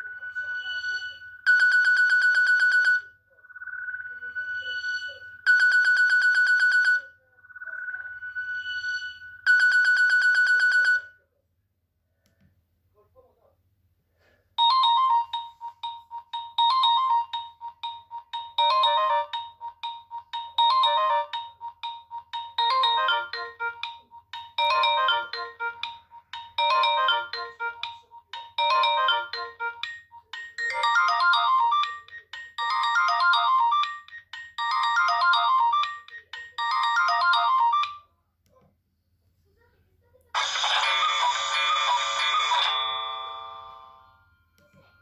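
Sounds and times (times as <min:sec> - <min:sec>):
mobile phone ringtone melody: 0:00.0 - 0:11.2, 0:14.6 - 0:38.1, 0:40.4 - 0:45.0.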